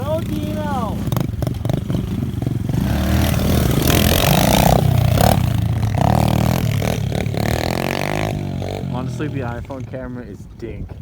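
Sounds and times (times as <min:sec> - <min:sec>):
pit bike engine revving: 0:00.0 - 0:10.4.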